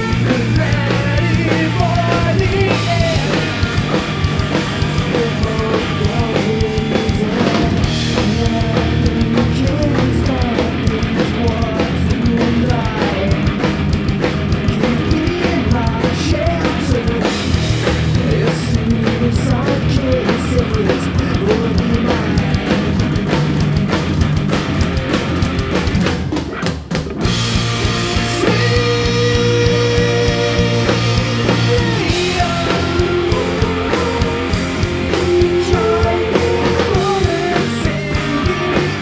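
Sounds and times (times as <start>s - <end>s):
drum kit: 0.0s - 39.0s
heavy rock band playing live: 0.0s - 39.0s.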